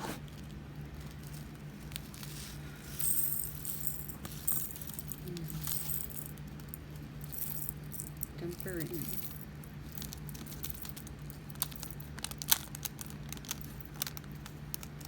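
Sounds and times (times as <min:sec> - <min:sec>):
tiny resin beads rattling: 0:00.5 - 0:15.0.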